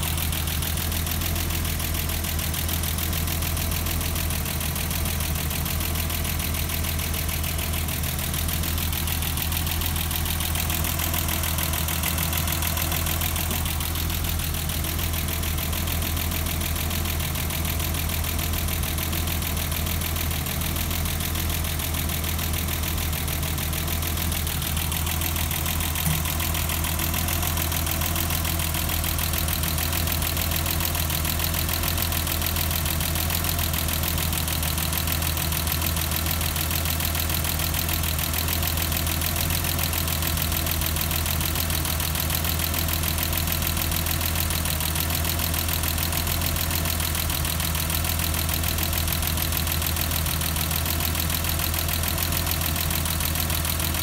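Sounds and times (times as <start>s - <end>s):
car engine idling: 0.0s - 54.0s
engine knock: 0.0s - 54.0s.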